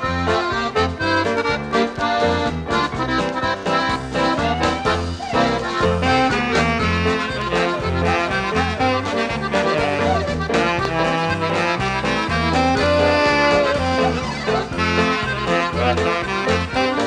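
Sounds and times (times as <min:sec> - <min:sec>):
polka music with accordion and brass: 0:00.0 - 0:17.0.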